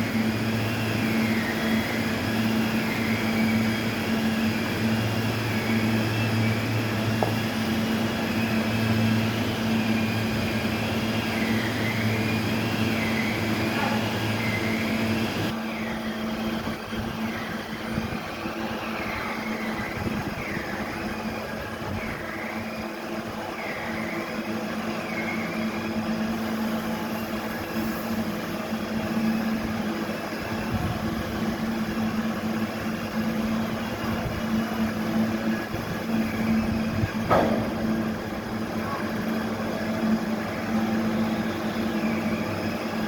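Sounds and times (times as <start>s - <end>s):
high whine swinging in pitch: 0.0s - 43.0s
sawmill machinery hum: 0.0s - 43.0s.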